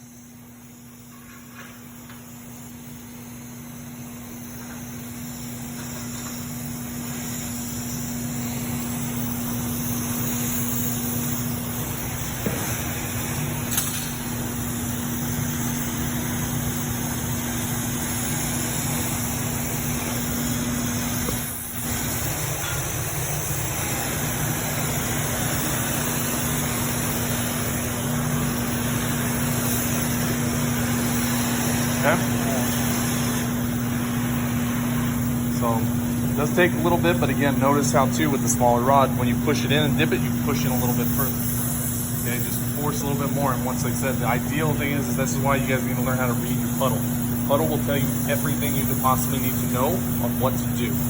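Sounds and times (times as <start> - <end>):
steady low hum: 0.0 - 51.0
welding torch flame hissing: 0.0 - 51.0.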